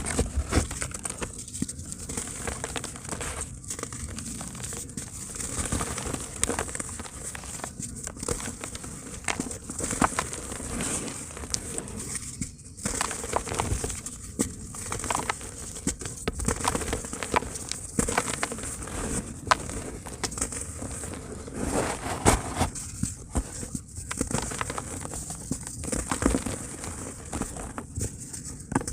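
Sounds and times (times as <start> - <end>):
dry cement crumbling and crunching: 0.0 - 28.9.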